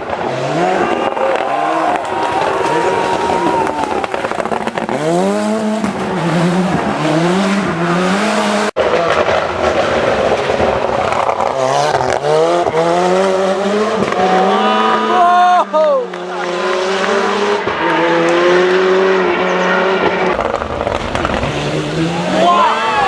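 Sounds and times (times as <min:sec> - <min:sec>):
rally car engine accelerating hard: 0:00.0 - 0:23.0.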